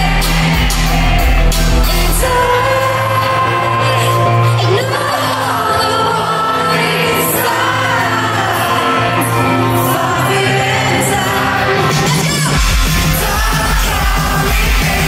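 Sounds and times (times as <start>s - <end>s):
pop-punk band playing live: 0.0s - 15.0s
woman singing lead: 0.0s - 15.0s.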